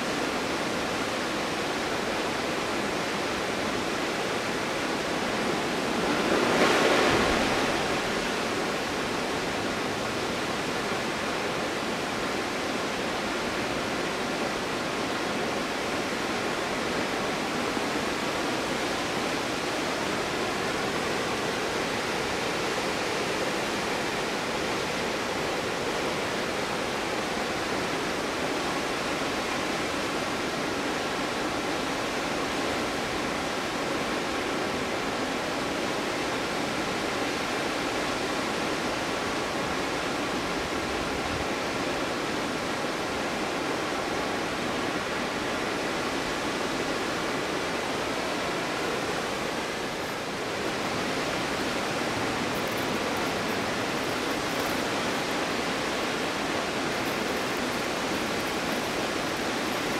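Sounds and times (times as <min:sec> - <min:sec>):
waterfall rushing: 0:00.0 - 0:33.2, 0:44.4 - 0:59.9.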